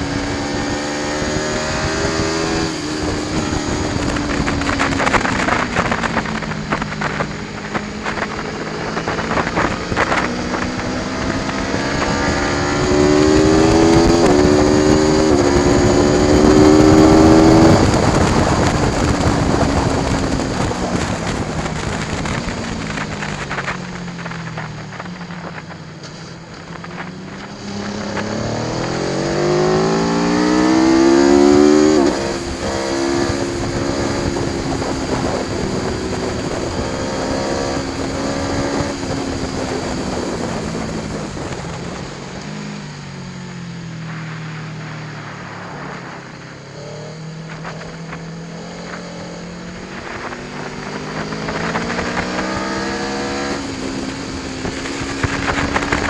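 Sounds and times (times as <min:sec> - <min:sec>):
motorcycle engine accelerating hard: 0:00.0 - 0:56.0.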